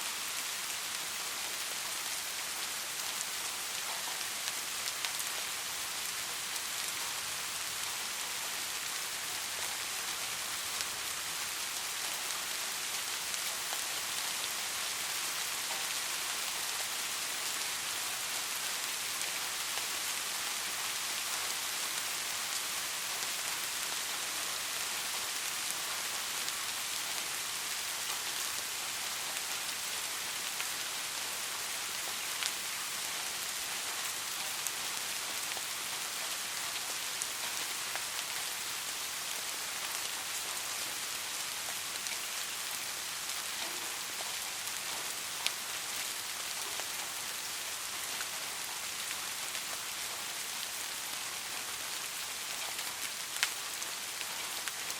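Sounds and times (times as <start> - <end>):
light rain falling: 0.0 - 54.9.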